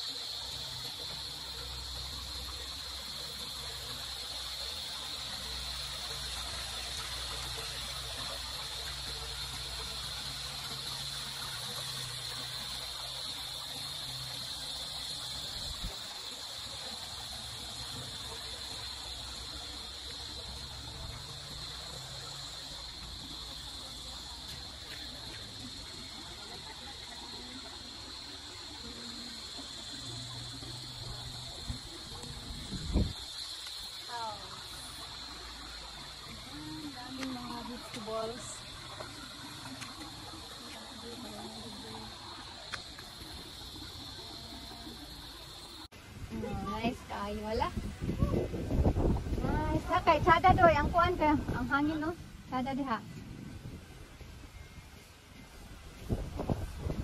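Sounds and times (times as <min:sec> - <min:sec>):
constant hiss: 0:00.0 - 0:57.0
high-pitched insect chorus: 0:00.0 - 0:57.0.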